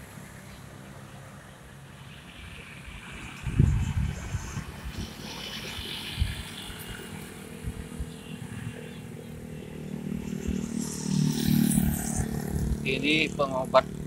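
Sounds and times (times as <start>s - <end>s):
motorcycles passing: 0.0s - 14.0s.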